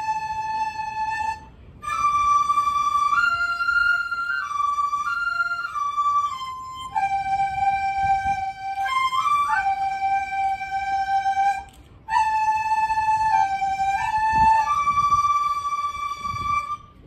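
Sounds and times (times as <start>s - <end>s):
bamboo flutes playing melody: 0.0s - 17.0s.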